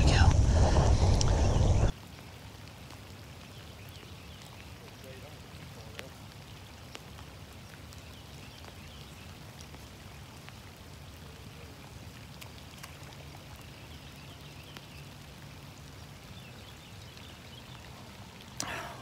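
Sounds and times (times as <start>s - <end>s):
steady rain falling: 0.0s - 19.0s
raindrops ticking: 1.9s - 19.0s.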